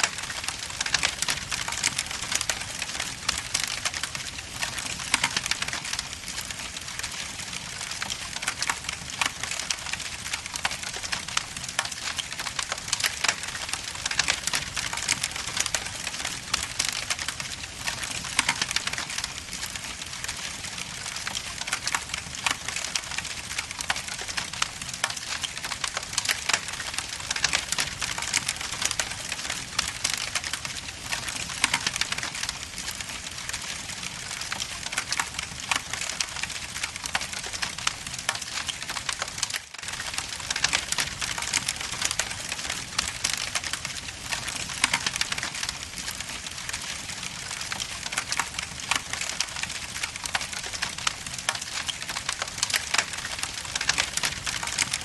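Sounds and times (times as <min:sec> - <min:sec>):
wood logs crackling in fireplace: 0:00.0 - 0:55.0.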